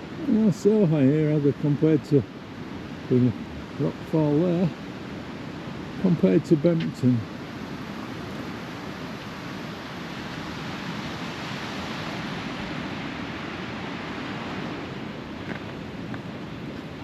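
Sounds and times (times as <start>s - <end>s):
waves breaking on rocky shore: 0.0s - 17.0s.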